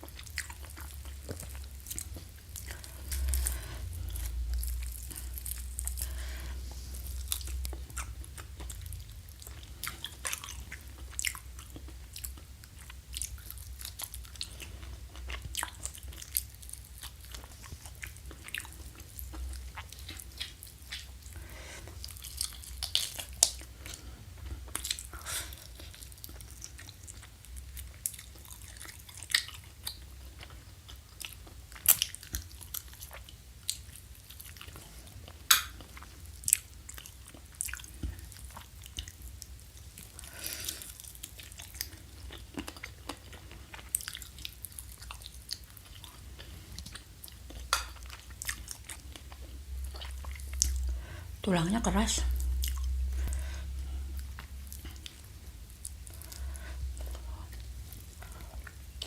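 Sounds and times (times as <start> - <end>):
crunchy chewing: 0.0 - 50.8
faint low hum: 0.0 - 59.0.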